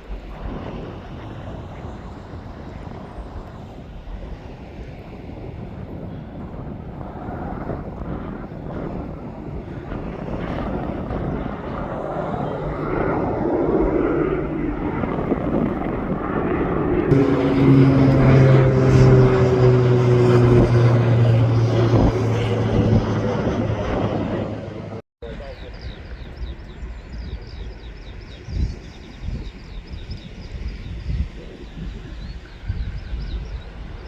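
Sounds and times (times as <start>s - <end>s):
propeller aircraft passing: 0.0s - 34.0s.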